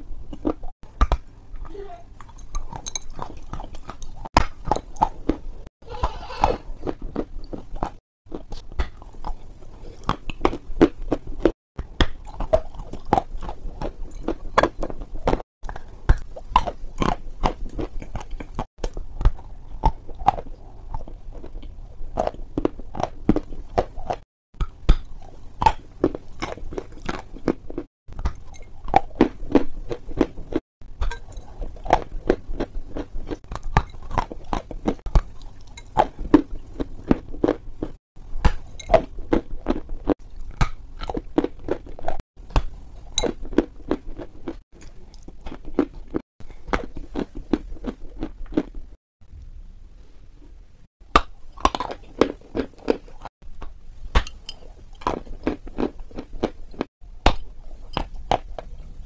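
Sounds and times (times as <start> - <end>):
chewing crunchy dessert: 0.2 - 1.2, 2.1 - 49.0, 51.1 - 59.0.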